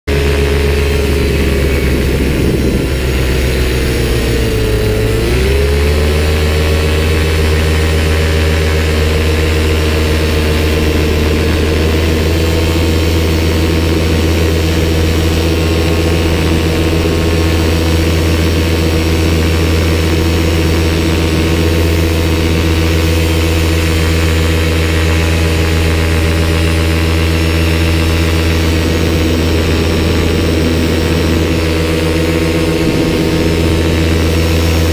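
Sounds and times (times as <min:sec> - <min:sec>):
paramotor engine and propeller: 0:00.1 - 0:34.9.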